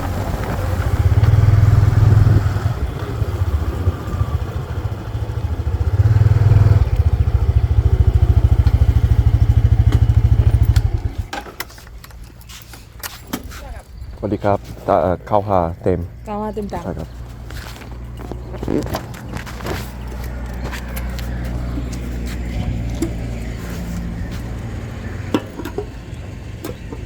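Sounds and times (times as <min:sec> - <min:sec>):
motorbike engine revving and puttering: 0:00.0 - 0:12.3, 0:16.7 - 0:27.0.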